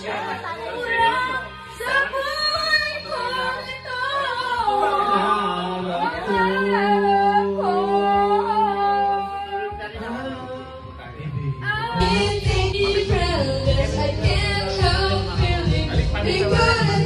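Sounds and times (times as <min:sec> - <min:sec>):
backing track music: 0:00.0 - 0:17.0
person singing karaoke: 0:00.0 - 0:17.0.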